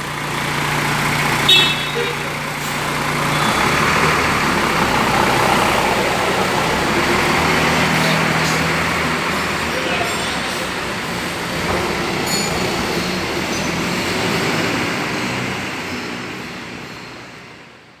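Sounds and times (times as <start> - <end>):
diesel bus engine rumbling: 0.0 - 18.0.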